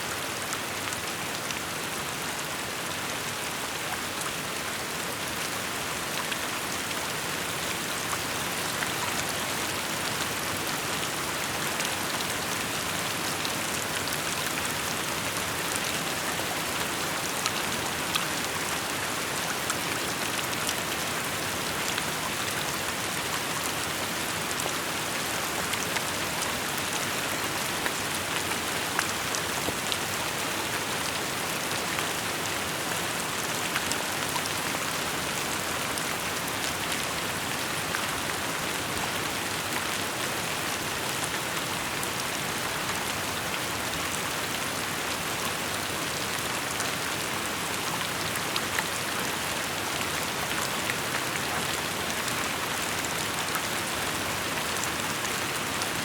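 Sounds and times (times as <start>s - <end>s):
rain falling: 0.1s - 56.0s.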